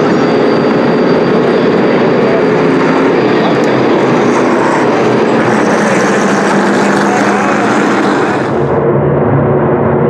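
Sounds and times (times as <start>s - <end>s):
race truck engines droning: 0.0s - 10.0s.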